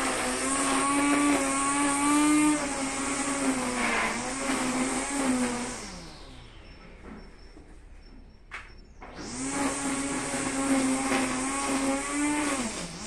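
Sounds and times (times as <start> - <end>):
trimmer motor winding down: 0.0 - 7.4, 9.0 - 13.0
electric string trimmer running: 0.0 - 7.7, 8.6 - 13.0.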